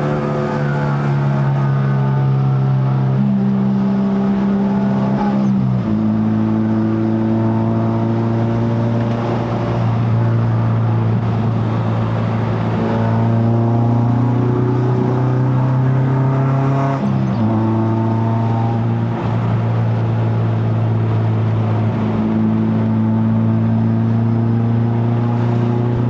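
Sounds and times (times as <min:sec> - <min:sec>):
car engine through straight exhaust: 0:00.0 - 0:26.0.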